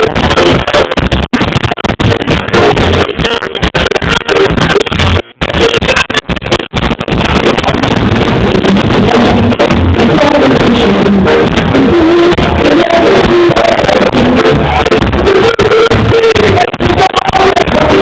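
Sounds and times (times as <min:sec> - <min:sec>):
distorted reggae band music: 0:00.0 - 0:18.0.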